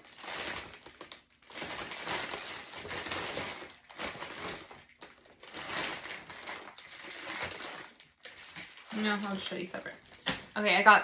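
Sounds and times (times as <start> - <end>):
plastic mailer bag crinkling: 0.0 - 10.7.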